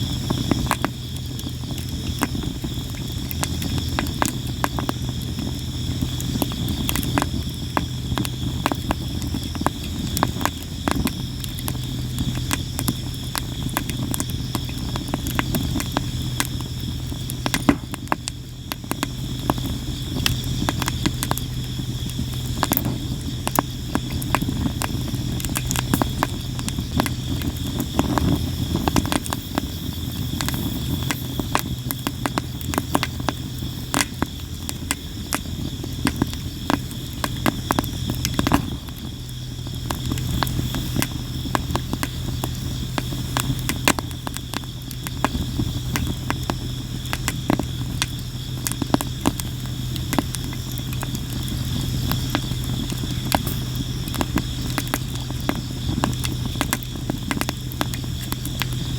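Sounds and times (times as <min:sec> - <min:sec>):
firewood crackling and popping: 0:00.0 - 0:58.9
high insect trill: 0:00.0 - 0:58.9.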